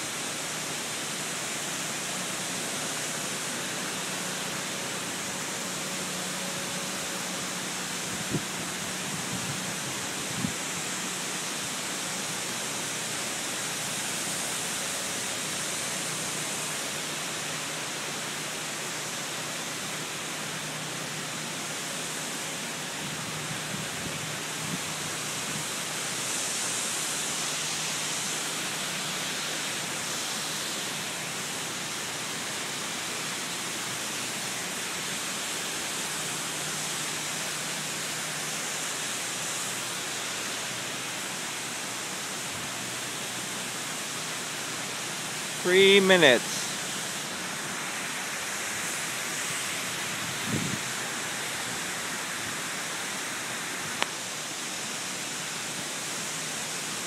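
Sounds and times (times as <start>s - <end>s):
foam and water spraying hiss: 0.0s - 57.0s.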